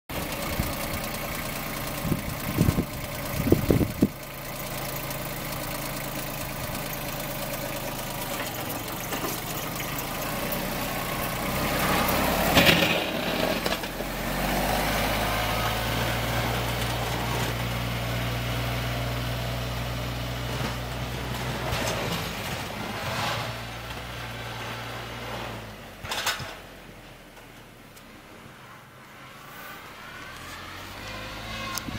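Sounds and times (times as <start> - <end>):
tractor diesel engine running: 0.1 - 28.4, 29.4 - 31.9.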